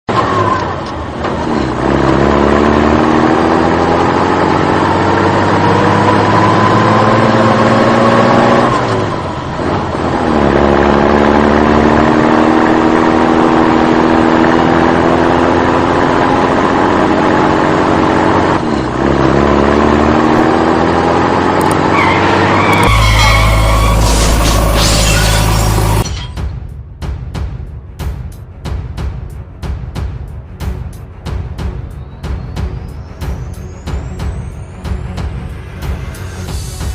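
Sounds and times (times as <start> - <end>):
vehicle engine accelerating: 0.1 - 26.0, 28.0 - 36.9.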